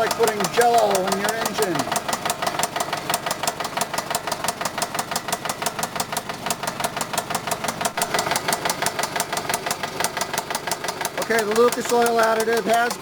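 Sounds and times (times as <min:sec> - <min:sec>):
car engine with rapid knocking: 0:00.0 - 0:13.0.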